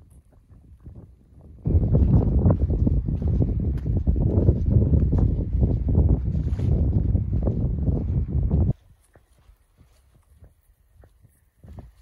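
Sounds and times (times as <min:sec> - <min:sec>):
footsteps on stony trail: 0:00.0 - 0:12.0
wind buffeting microphone: 0:00.0 - 0:12.0.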